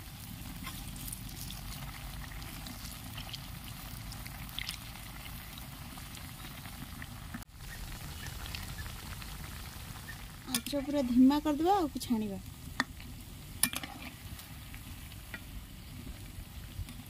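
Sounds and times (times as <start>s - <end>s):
deep-frying in hot oil: 0.0s - 17.0s
oil pops and crackles: 0.4s - 11.2s, 12.6s - 17.0s.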